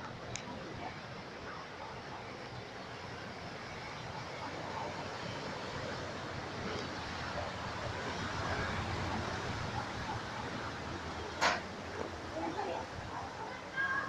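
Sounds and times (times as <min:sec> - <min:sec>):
rushing noise with low rumble: 0:00.0 - 0:13.7.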